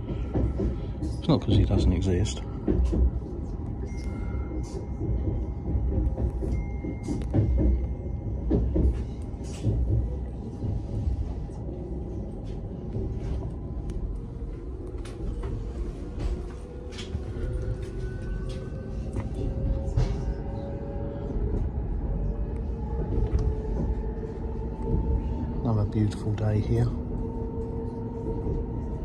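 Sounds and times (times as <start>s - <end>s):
train rumble inside carriage: 0.0s - 29.0s.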